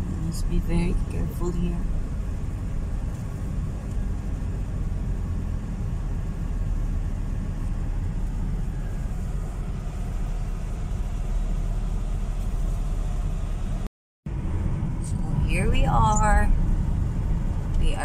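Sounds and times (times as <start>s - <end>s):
car engine and tyres on gravel: 0.0s - 15.3s, 16.3s - 18.0s.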